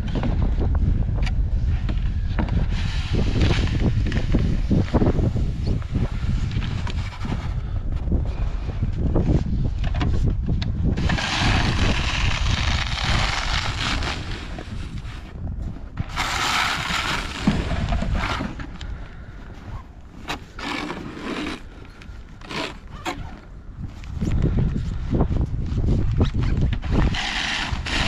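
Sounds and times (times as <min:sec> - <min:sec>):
wind rumble on microphone: 0:00.0 - 0:28.0
scraping on snow and ice: 0:01.6 - 0:10.2, 0:10.9 - 0:28.0.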